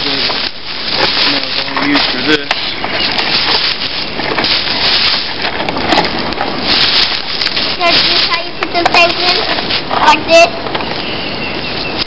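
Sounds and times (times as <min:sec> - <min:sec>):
dry leaves crackling: 0:00.0 - 0:12.0.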